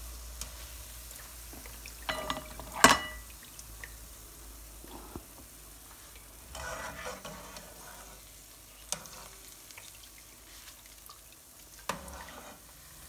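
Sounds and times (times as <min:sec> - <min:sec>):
frying in hot oil sizzling: 0:00.0 - 0:13.0.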